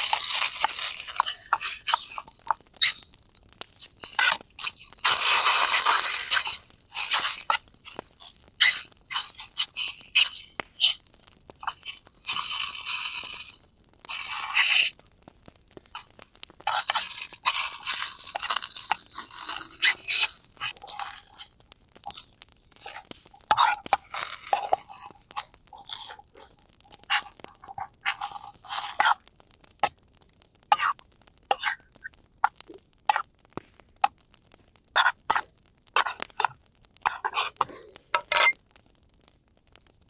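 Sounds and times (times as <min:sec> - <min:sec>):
crunching and crackling: 0:00.0 - 0:40.0.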